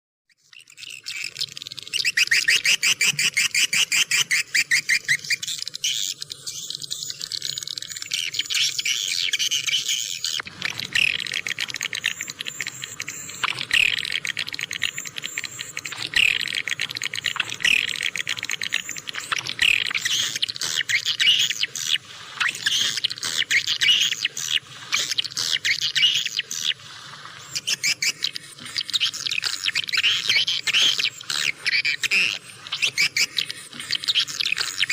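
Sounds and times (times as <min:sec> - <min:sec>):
swiftlets twittering: 0:00.6 - 0:34.9.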